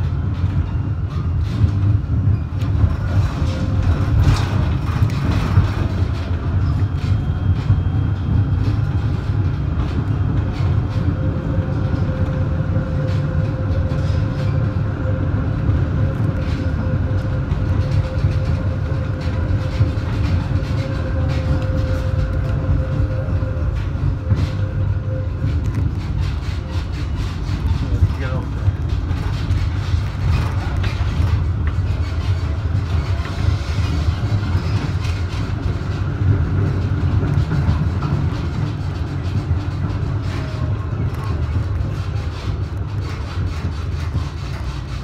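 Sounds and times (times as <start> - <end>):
steady whine: 0.0 - 45.0
tram rumbling on rails: 0.0 - 45.0
wheels clicking on rails: 0.0 - 45.0.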